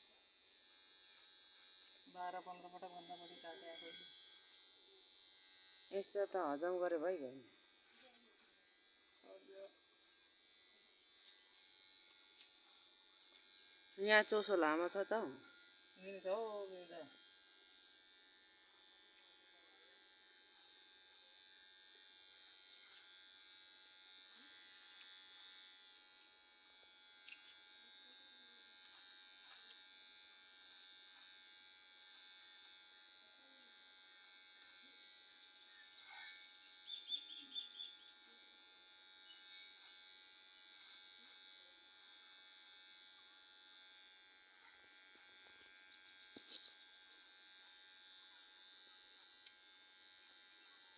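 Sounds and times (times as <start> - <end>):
electric hair clipper buzzing: 0.0 - 50.9.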